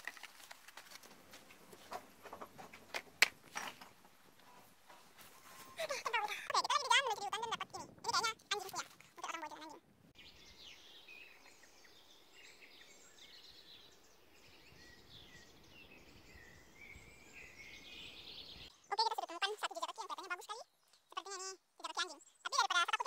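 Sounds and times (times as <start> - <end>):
songbirds chirping and warbling: 1.4 - 23.0.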